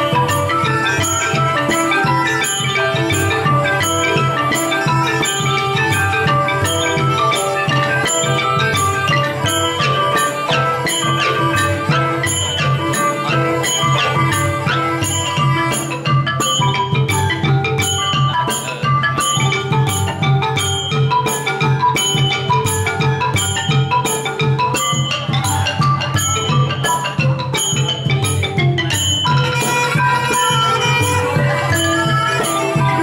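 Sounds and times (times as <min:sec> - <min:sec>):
barrel drums: 0:00.0 - 0:33.0
wooden xylophones: 0:00.0 - 0:33.0.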